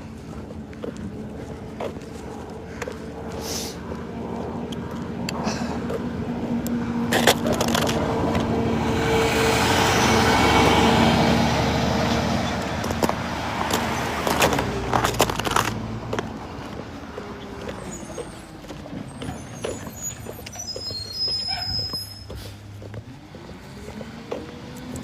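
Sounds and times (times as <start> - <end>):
motor vehicle passing: 0.0 - 25.0
steady engine hum: 0.0 - 25.0.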